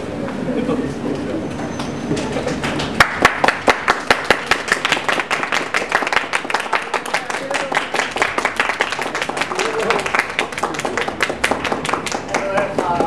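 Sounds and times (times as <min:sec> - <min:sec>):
audience applauding: 0:02.2 - 0:13.0.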